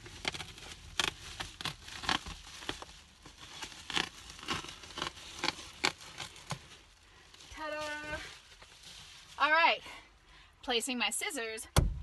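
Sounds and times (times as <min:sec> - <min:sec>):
foil insulation crinkling: 0:00.0 - 0:09.9.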